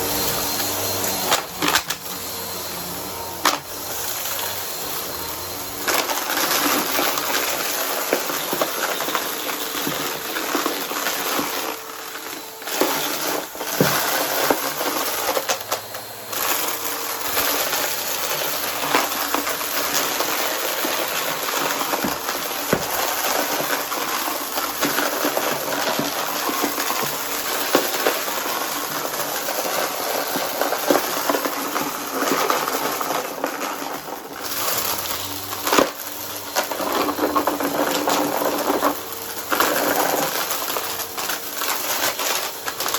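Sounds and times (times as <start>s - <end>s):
vacuum cleaner motor: 0.0s - 42.9s.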